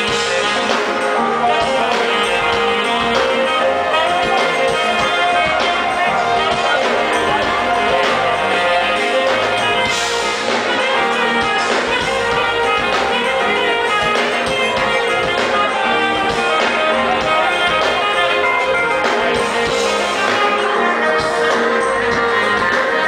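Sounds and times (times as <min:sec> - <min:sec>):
smooth jazz band playing: 0:00.0 - 0:23.0.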